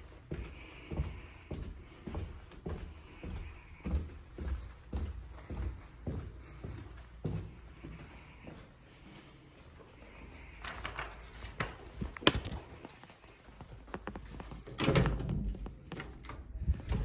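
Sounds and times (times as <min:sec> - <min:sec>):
footsteps indoors: 0:00.0 - 0:17.0.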